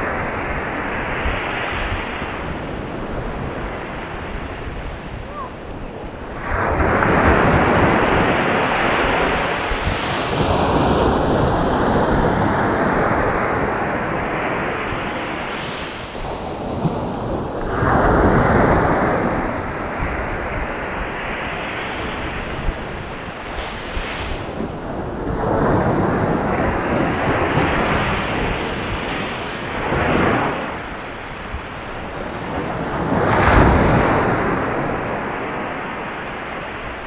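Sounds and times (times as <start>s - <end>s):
sea waves breaking on beach: 0.0s - 37.0s.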